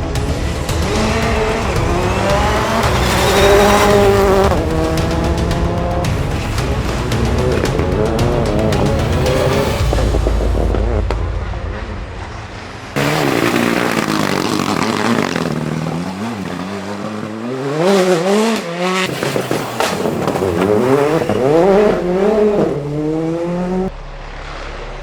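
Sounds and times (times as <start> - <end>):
rally car engines revving: 0.0 - 25.0.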